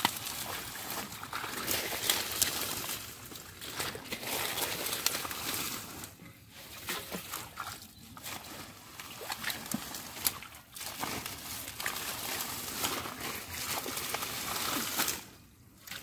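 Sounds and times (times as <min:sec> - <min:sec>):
plant stems rustling: 0:00.0 - 0:15.4
muddy water sloshing: 0:00.0 - 0:16.0.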